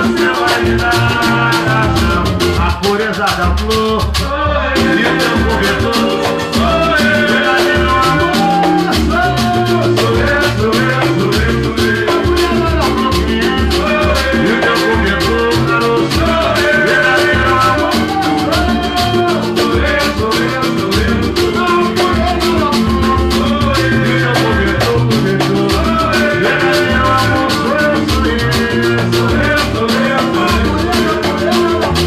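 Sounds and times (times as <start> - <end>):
band music with fast percussion: 0.0 - 32.0.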